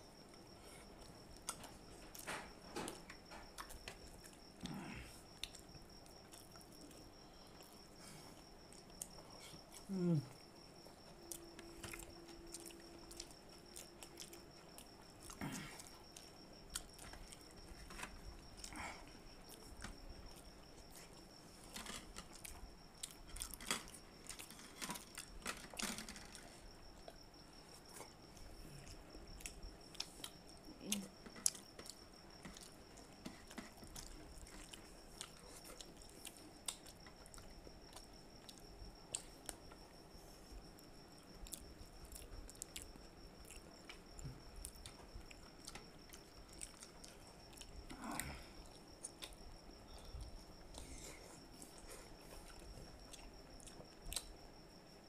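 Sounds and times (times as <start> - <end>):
faint high whine: 0.0 - 55.0
people chewing mango: 0.0 - 55.0.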